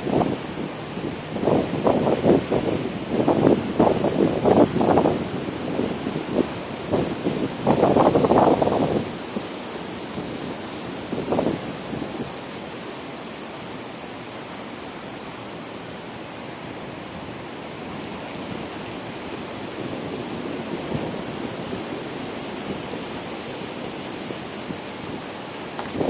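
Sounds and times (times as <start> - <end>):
wind across microphone: 0.0 - 12.8, 17.2 - 26.0.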